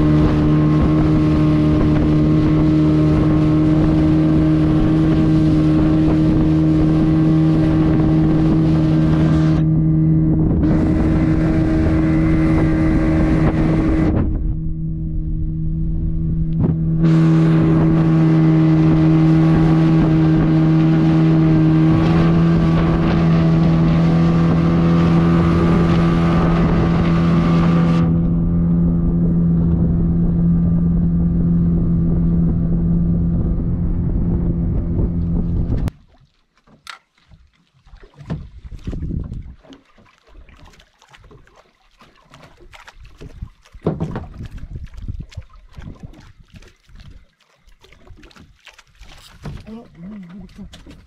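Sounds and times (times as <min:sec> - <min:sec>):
rushing water: 0:00.0 - 0:14.2, 0:16.6 - 0:31.4, 0:35.2 - 0:51.0
motorboat engine running: 0:00.0 - 0:51.0
wind: 0:00.0 - 0:51.0.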